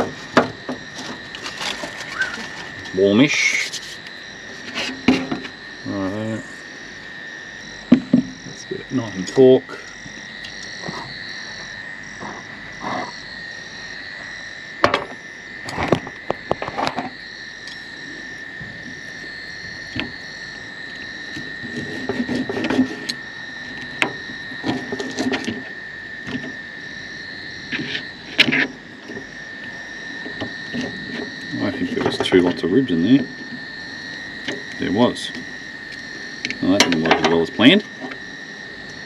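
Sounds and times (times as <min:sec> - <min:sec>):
frogs calling: 0:00.0 - 0:39.0.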